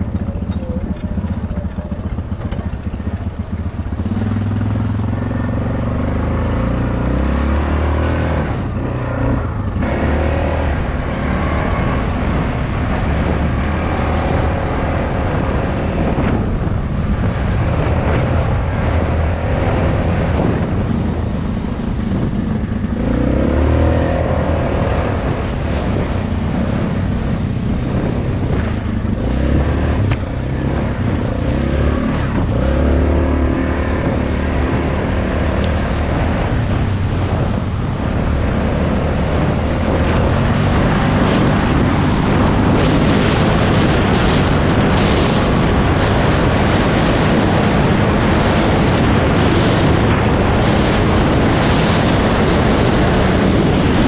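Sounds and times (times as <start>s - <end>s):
dirt bike engine revving: 3.9s - 21.2s, 22.1s - 54.0s.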